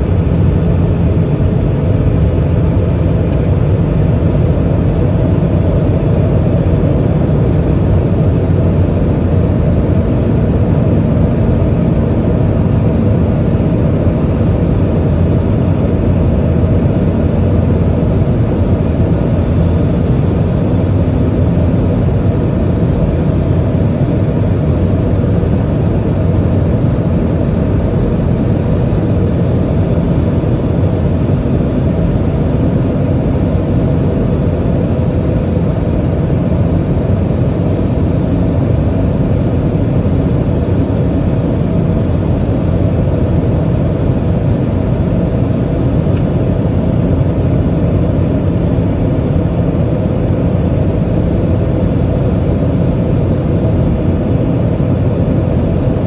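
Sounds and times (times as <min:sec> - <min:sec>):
airplane cabin rumble: 0:00.0 - 0:56.0
faint steady hum: 0:00.0 - 0:56.0.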